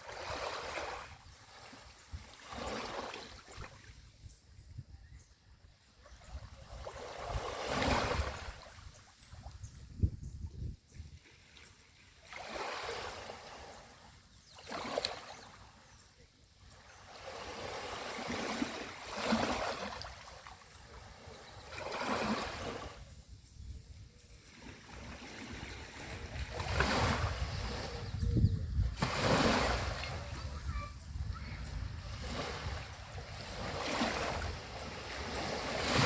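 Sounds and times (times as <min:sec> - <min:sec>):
small waves washing onto beach: 0:00.0 - 0:04.0, 0:06.1 - 0:09.6, 0:11.1 - 0:16.0, 0:16.6 - 0:23.3, 0:24.3 - 0:28.2, 0:28.8 - 0:36.0.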